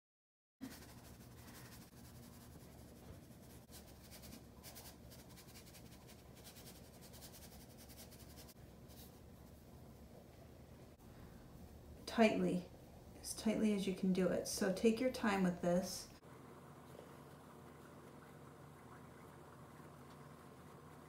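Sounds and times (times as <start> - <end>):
low room hum: 0.6 - 21.0.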